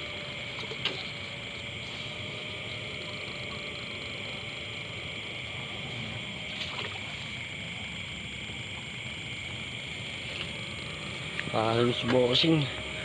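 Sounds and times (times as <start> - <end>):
insect chorus trilling: 0.0 - 13.0
rumble of handling and wading: 0.0 - 13.0.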